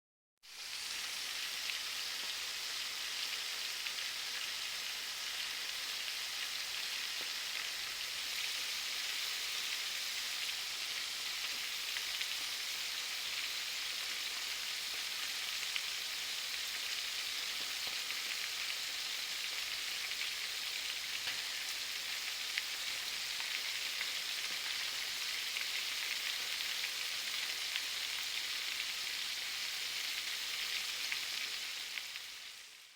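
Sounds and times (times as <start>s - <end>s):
fish sizzling in a pan: 0.4s - 32.9s.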